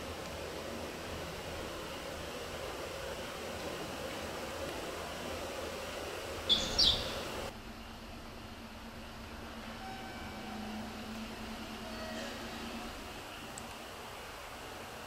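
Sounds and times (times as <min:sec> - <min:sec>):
station background noise: 0:00.0 - 0:15.0.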